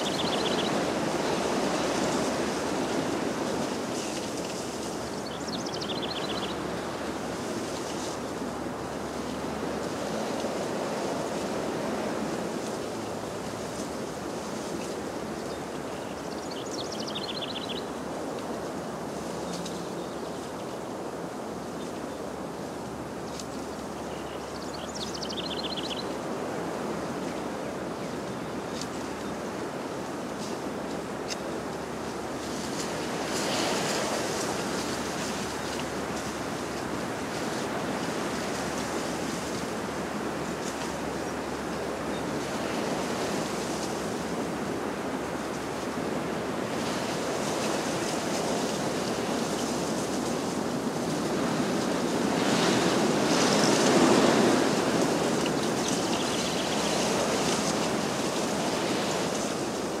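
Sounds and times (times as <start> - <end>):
ocean surf washing: 0.0 - 60.0.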